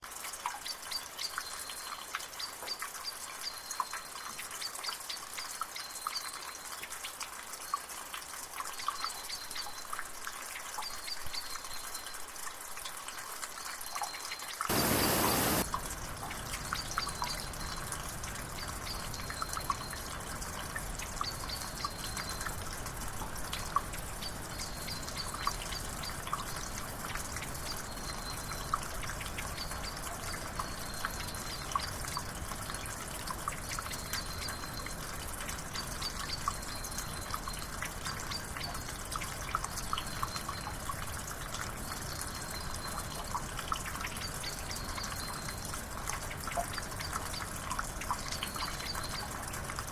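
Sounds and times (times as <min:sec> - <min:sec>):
water trickling and dripping: 0:00.0 - 0:49.9.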